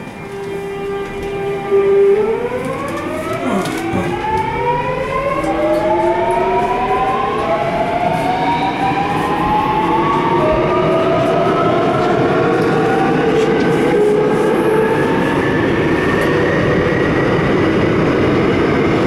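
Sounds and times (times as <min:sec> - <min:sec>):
rumble of running train: 0:00.0 - 0:19.0.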